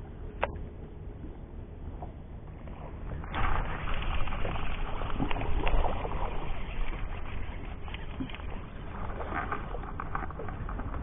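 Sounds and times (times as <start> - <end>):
wind rumbling on microphone: 0.0 - 11.0
waves lapping against boat hull: 1.9 - 11.0.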